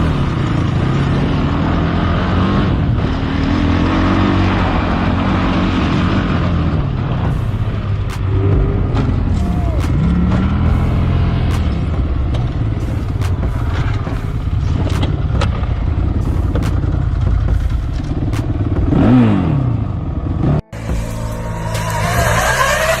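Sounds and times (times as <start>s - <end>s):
engine knocks and clatter: 0.0s - 23.0s
off-road vehicle engine revving: 0.0s - 23.0s.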